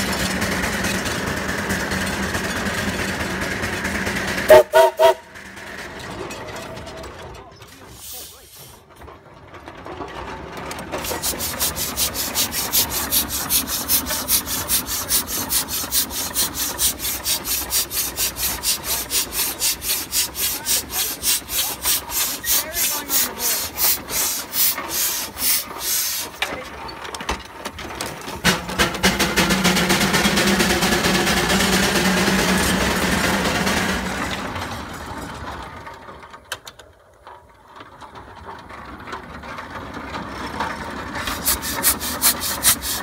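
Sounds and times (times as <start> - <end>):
steam engine chuffing: 0.0 - 27.1, 27.8 - 36.3, 38.0 - 43.0.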